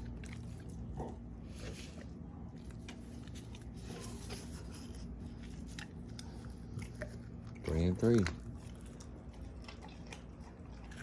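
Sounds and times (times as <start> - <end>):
dogs chewing and crunching: 0.0 - 11.0
steady low hum: 0.0 - 11.0.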